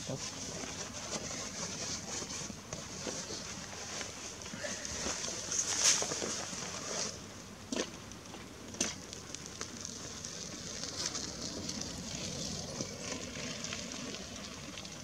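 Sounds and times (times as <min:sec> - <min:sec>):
high-pitched hiss with crackling: 0:00.0 - 0:15.0.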